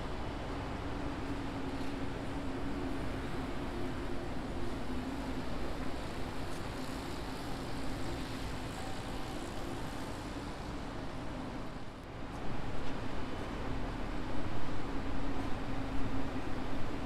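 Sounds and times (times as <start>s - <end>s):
low hum of bus engines: 0.0s - 17.0s.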